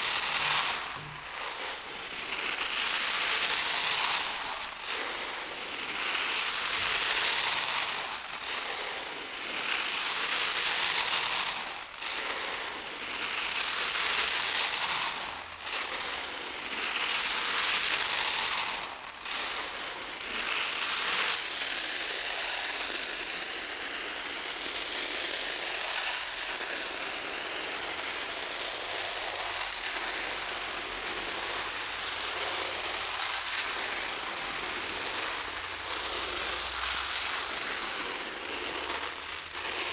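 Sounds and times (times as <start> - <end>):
rice grains pouring onto paper: 0.0 - 39.9.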